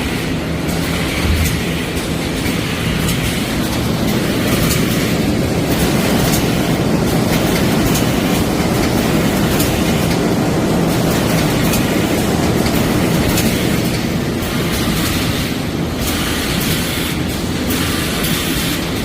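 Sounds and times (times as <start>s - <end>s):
packaging machine running: 0.0s - 19.0s.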